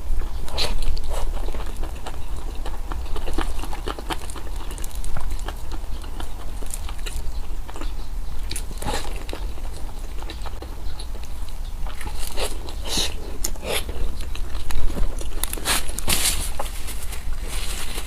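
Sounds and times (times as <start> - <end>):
person chewing crunchy food: 0.0 - 18.0
steady low hum: 0.0 - 18.0.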